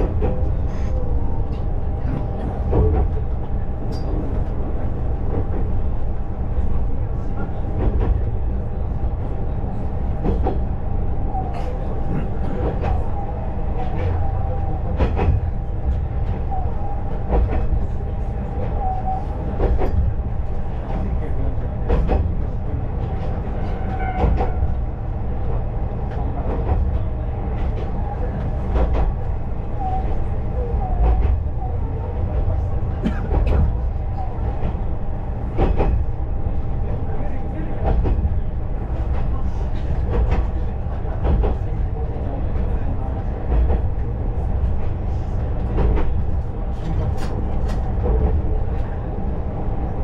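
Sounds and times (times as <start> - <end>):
railcar engine and wheels rumbling: 0.0 - 50.0.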